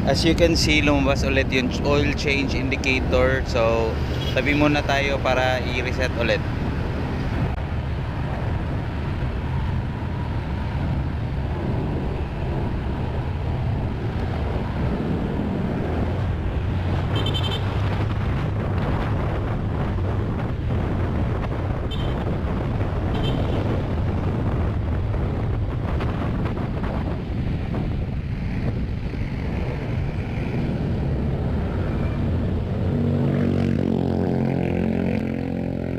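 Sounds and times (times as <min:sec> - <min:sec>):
wind on microphone: 0:00.0 - 0:35.9.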